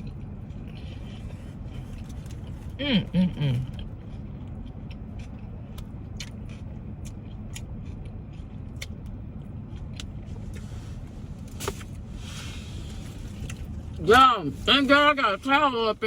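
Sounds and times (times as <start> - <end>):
close-up chewing: 0.0 - 12.0, 12.9 - 14.1
steady low hum: 0.0 - 16.0.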